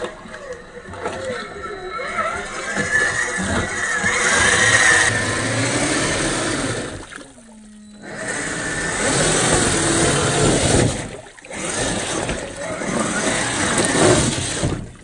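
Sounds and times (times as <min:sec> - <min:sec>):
electric motor whine: 0:00.0 - 0:14.7.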